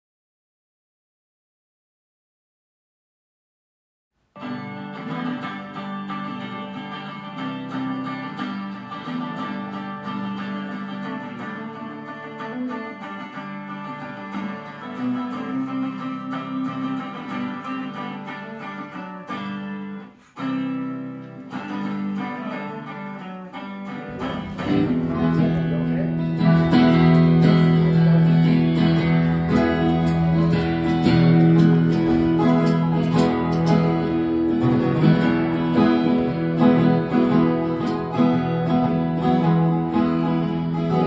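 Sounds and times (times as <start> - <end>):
strummed guitar chords: 4.4 - 41.0.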